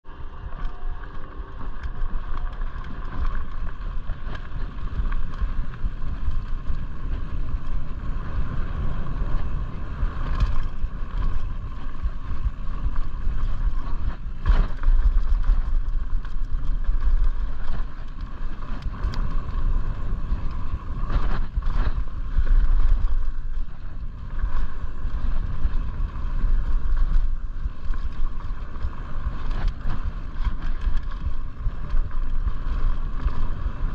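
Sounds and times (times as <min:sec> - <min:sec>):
bike rattling: 0:00.0 - 0:33.9
wind on microphone: 0:00.0 - 0:33.9.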